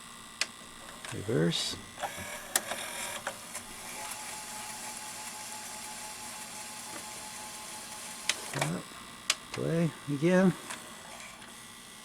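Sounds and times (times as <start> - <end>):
tape mechanism whirring: 0.4 - 9.7, 10.6 - 11.6.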